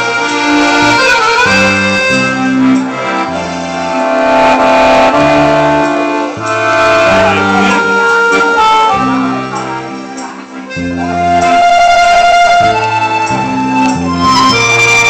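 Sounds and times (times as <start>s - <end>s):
accordion playing a slow waltz: 0.0s - 15.0s.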